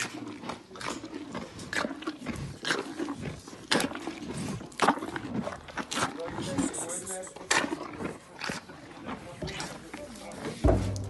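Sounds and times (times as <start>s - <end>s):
rhino chewing with loud crunches: 0.0s - 11.0s.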